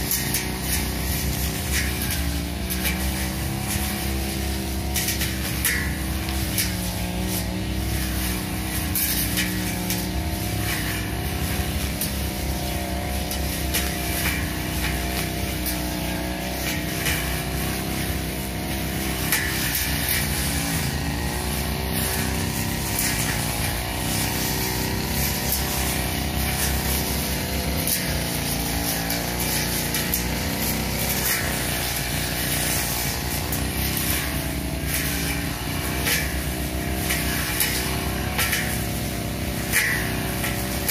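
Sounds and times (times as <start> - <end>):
brush cutter engine running: 0.0 - 40.9.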